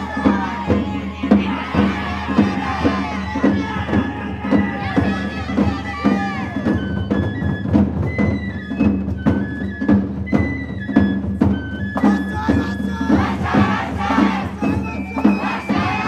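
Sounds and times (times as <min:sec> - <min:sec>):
bamboo flute melody: 0:00.0 - 0:16.0
taiko drum beat: 0:00.0 - 0:16.0.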